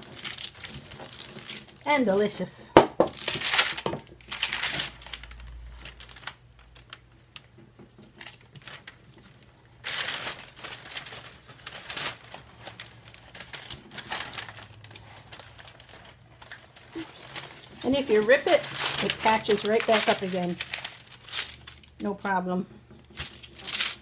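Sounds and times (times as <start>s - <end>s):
paper crinkling and rustling: 0.0s - 2.3s, 3.0s - 24.0s.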